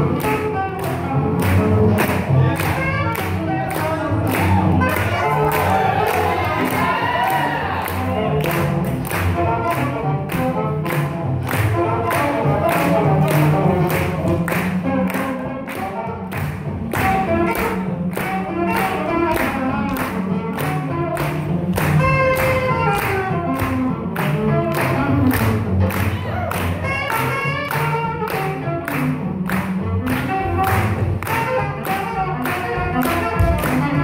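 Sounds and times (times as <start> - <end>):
swing jazz band: 0.0 - 34.0.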